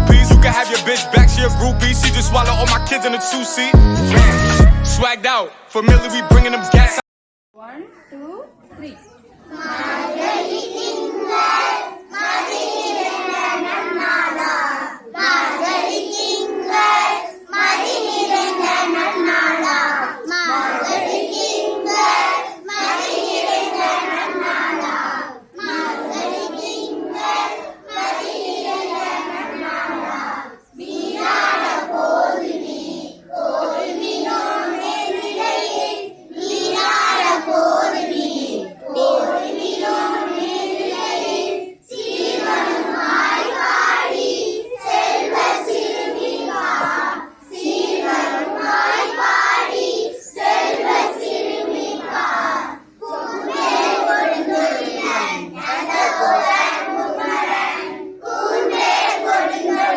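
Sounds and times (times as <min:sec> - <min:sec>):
children chanting in unison: 0:09.4 - 0:59.9.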